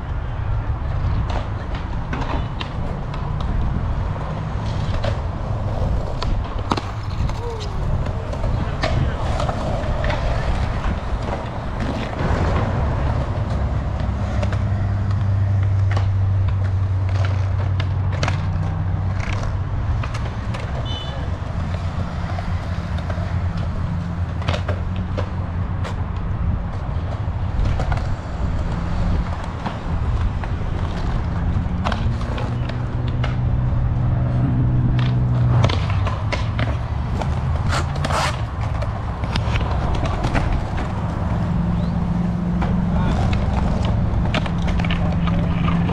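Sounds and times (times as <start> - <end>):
skateboard wheels rolling on concrete: 0.0 - 45.9
skateboards popping and landing: 0.0 - 45.9.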